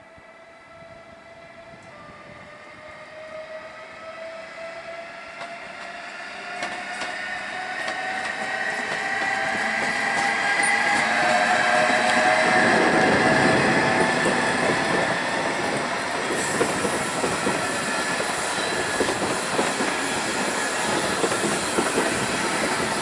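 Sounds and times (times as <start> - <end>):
electric locomotive whine: 0.0 - 23.0.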